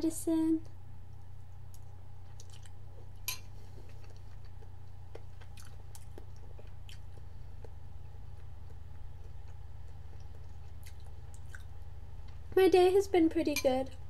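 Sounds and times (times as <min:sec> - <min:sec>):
person chewing soup: 0:01.1 - 0:12.5.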